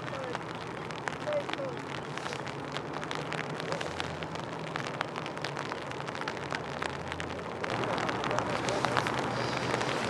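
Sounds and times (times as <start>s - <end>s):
small sharp ticks and crackles: 0.0s - 10.0s.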